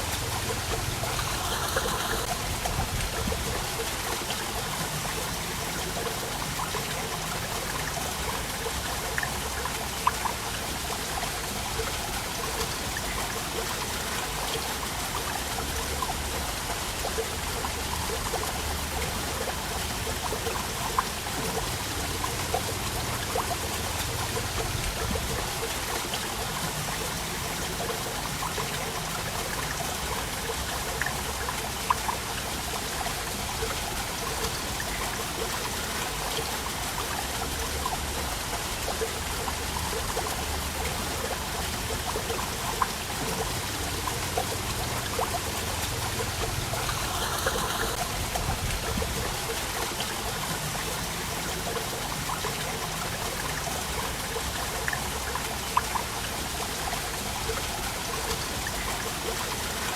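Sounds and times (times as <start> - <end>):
water dripping: 0.0 - 59.9
waterfall rushing: 0.0 - 59.9.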